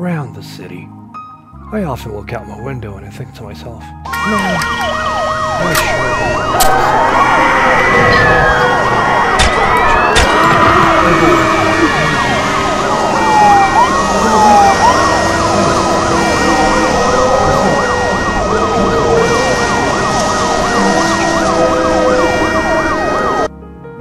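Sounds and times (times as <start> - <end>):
emergency vehicle sirens: 4.0 - 23.5.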